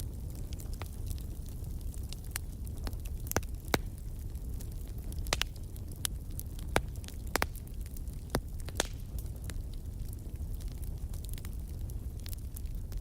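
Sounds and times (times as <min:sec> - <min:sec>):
fire rumbling: 0:00.0 - 0:13.0
wood crackling and popping: 0:00.0 - 0:13.0.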